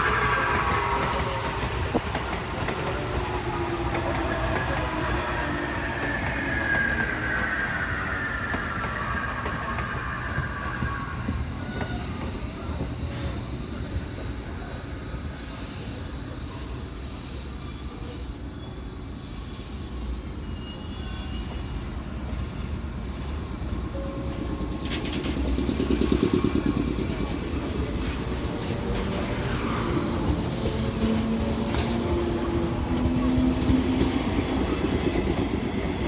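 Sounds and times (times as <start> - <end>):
high squeal: 0.0 - 23.3, 25.9 - 36.0
train wheels rumbling on rail: 0.0 - 36.0.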